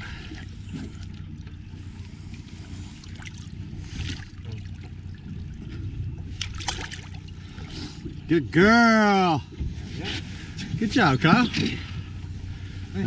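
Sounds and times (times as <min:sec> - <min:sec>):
low steady hum: 0:00.0 - 0:13.0
water splashing and sloshing: 0:00.0 - 0:13.0.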